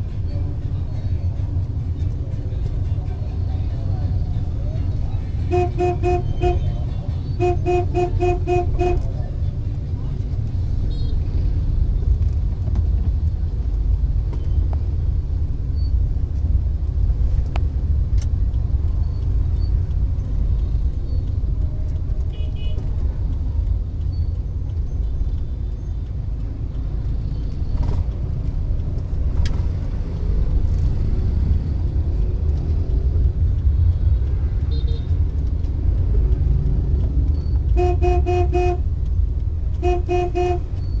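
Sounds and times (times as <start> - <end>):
motorbike traffic rumble: 0.0 - 41.0.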